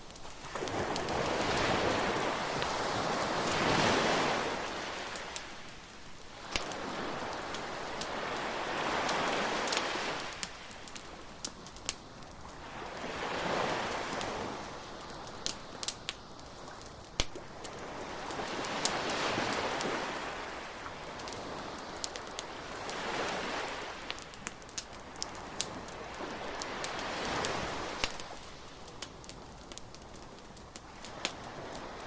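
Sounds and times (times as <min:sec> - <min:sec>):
surf washing in and out: 0:00.0 - 0:29.4, 0:30.6 - 0:32.0
bonfire popping and crackling: 0:00.0 - 0:32.0.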